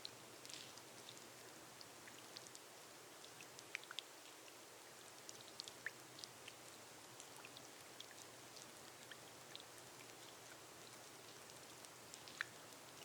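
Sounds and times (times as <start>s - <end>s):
rain hissing on glass roof: 0.0s - 13.0s.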